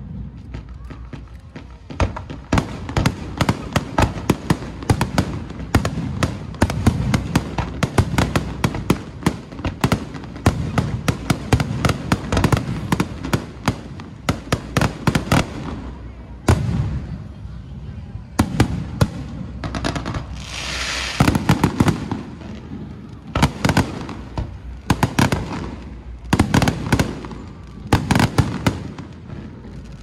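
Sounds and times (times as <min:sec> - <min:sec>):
firecrackers banging: 0:00.0 - 0:30.0.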